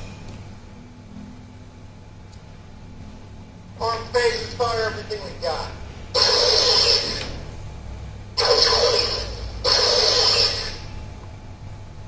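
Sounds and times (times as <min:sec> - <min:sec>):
low electronic hum: 0:00.0 - 0:12.0.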